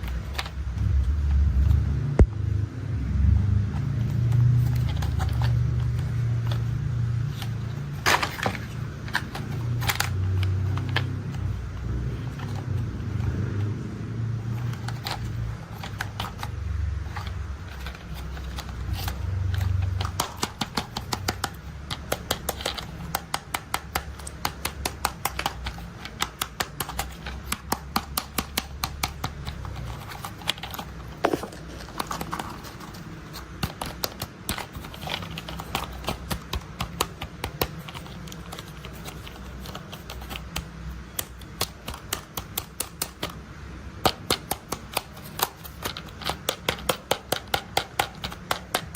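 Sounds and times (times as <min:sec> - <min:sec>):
plastic toys clicking and tapping: 0:00.0 - 0:00.8, 0:04.0 - 0:13.4, 0:14.5 - 0:48.9.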